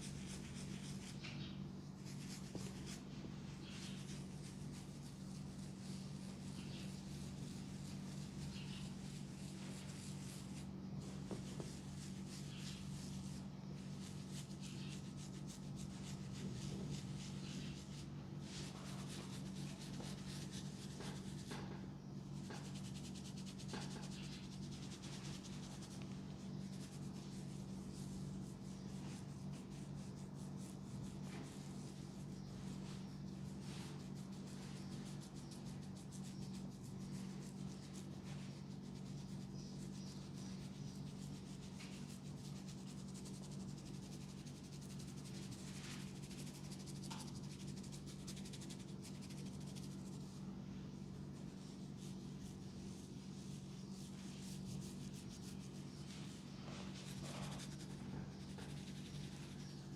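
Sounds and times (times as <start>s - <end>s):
hands rubbing skin and hair: 0.0s - 21.8s, 22.4s - 50.5s, 51.2s - 59.9s
small scattered ticks: 0.0s - 59.9s
steady low hum: 0.0s - 59.9s.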